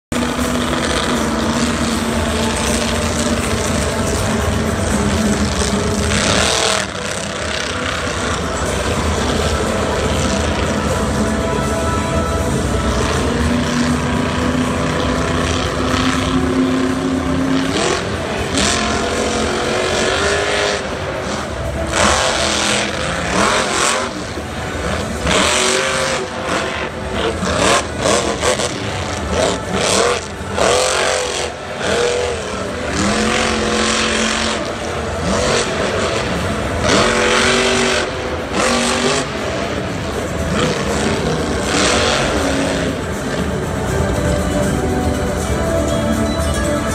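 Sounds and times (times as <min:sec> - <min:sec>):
truck engine revving hard: 0:00.1 - 0:46.9.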